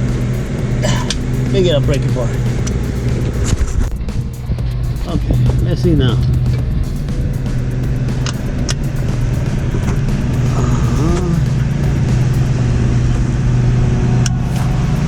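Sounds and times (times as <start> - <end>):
electric fan humming: 0.0 - 13.6.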